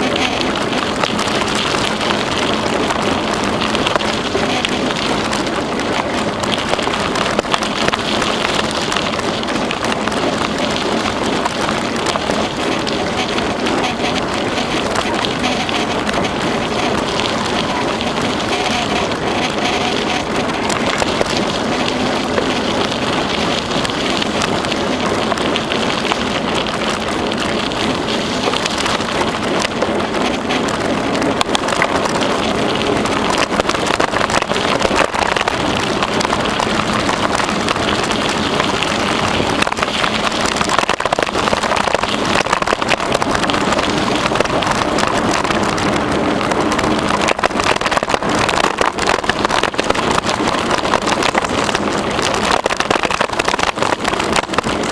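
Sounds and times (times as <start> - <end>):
bicycle tyre and wind rush: 0.0 - 54.9
small crackles and rattles: 0.0 - 54.9.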